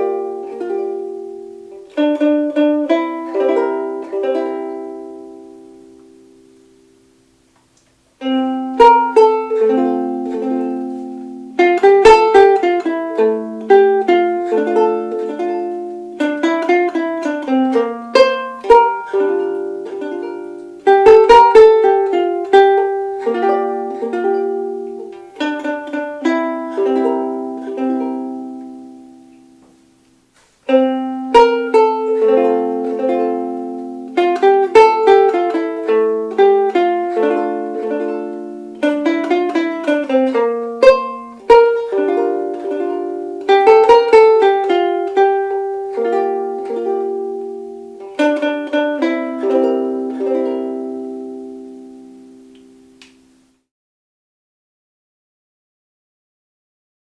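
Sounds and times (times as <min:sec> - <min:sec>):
ukulele plucked melody: 0:00.0 - 0:53.7.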